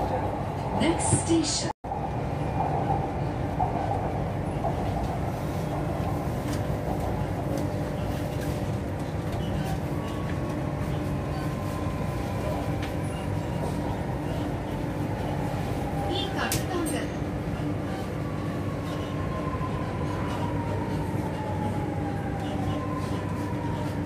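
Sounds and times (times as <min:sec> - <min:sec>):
faint train whine: 0:00.0 - 0:24.0
train rumbling on track: 0:00.0 - 0:24.0.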